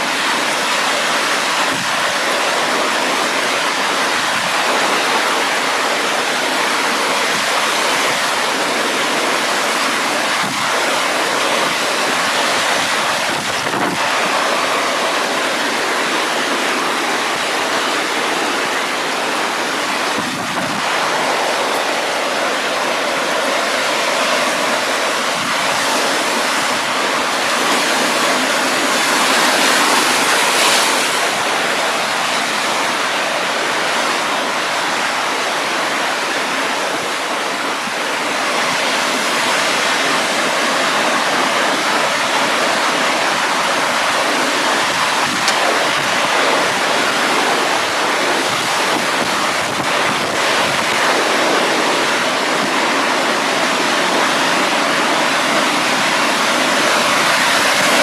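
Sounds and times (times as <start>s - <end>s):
heavy surf crashing: 0.0s - 58.0s.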